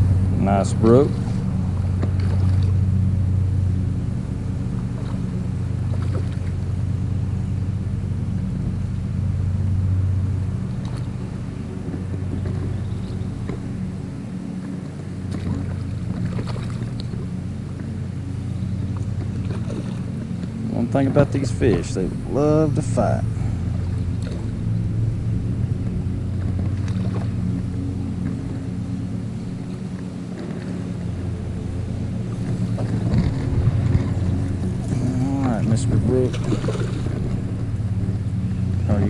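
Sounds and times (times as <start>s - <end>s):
stream water running: 0.0s - 39.0s.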